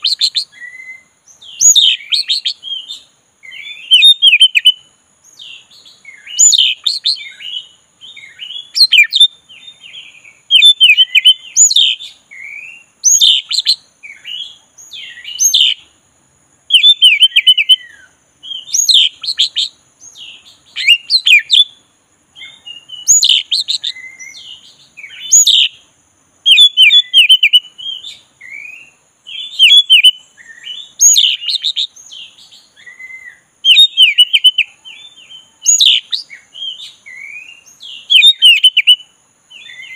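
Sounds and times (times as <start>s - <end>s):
bird singing whistled phrases: 0.0s - 15.8s, 16.7s - 21.8s, 22.4s - 25.8s, 26.4s - 39.9s.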